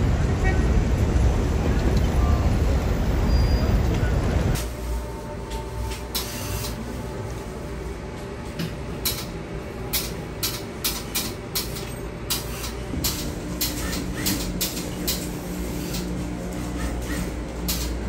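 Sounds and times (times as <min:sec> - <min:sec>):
workroom hum: 0:00.1 - 0:18.0.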